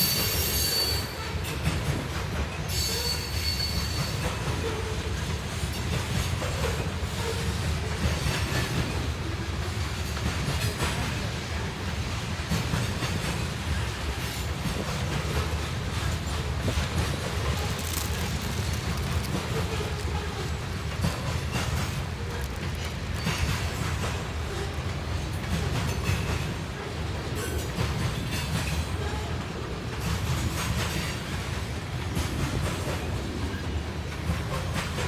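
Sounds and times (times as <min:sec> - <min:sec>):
train cars rumbling past: 0:00.0 - 0:35.0.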